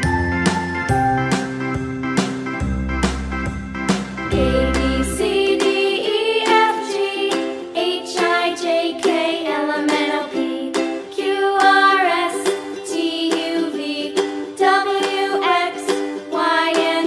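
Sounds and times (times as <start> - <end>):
bright children's music: 0.0 - 17.0.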